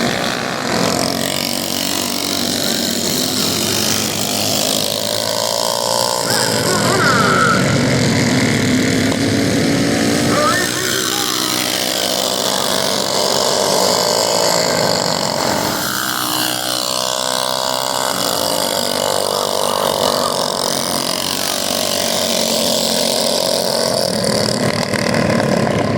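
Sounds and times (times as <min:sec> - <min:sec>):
minibike engines revving: 0:00.0 - 0:25.9.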